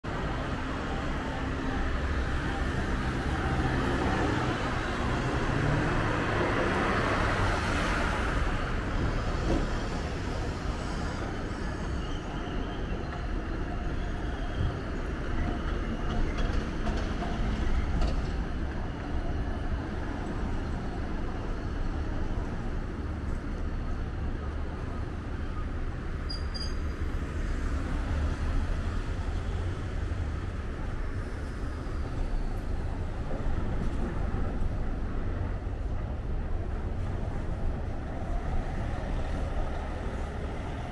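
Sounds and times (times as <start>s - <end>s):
passing road traffic: 0.0s - 40.9s
tram rumbling along track: 0.0s - 40.9s.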